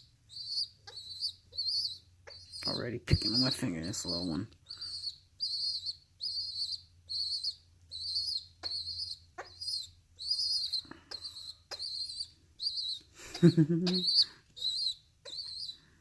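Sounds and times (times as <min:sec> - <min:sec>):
pigeon squab peeping: 0:00.0 - 0:16.0.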